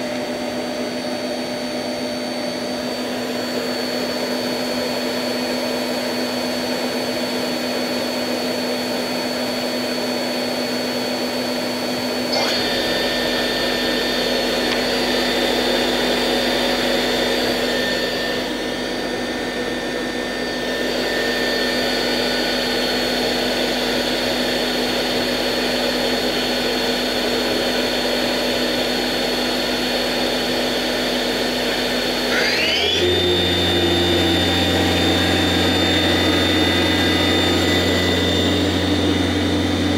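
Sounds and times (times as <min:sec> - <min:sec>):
machine spindle motor whine: 0:00.0 - 0:39.9.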